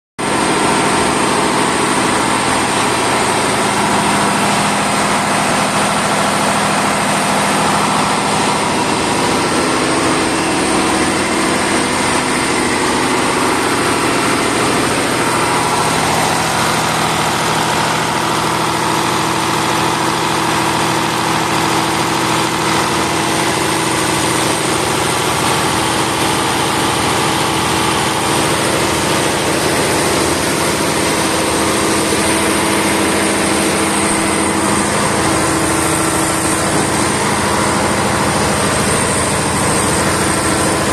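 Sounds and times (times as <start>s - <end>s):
diesel engine running steadily: 0.2s - 40.9s.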